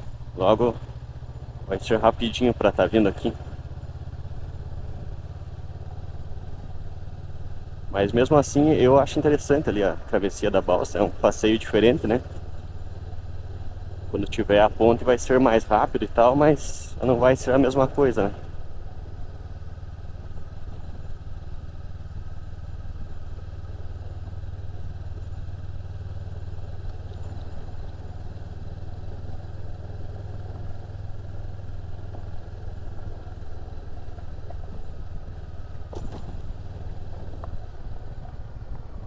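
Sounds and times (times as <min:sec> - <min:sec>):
motorcycle engine humming: 0:00.0 - 0:39.0
road noise on dirt road: 0:00.0 - 0:39.0.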